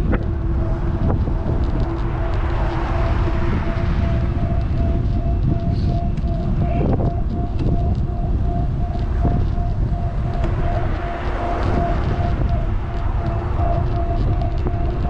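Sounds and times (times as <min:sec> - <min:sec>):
high pulsing whine: 0:00.0 - 0:15.0
wind buffeting microphone: 0:00.0 - 0:15.0.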